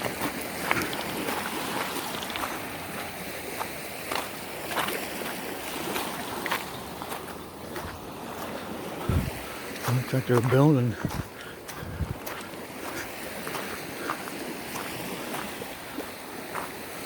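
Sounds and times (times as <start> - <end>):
footsteps crunching: 0.0 - 17.0
surf washing on a beach: 0.0 - 17.0.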